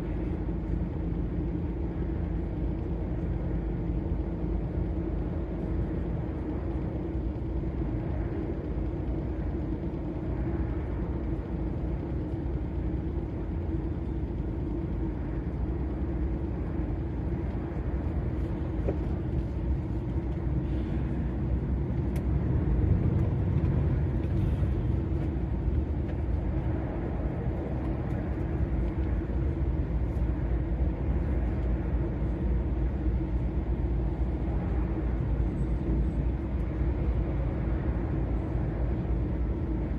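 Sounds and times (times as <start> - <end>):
diesel engine drone: 0.0 - 39.9
low road rumble: 0.0 - 39.9.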